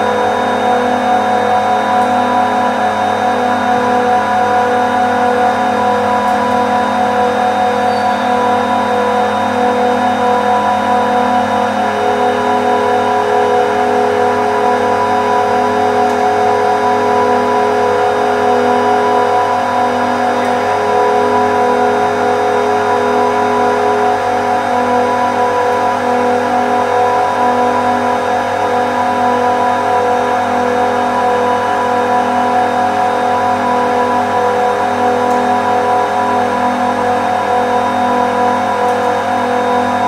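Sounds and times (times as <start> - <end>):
compressors humming: 0.0 - 40.0.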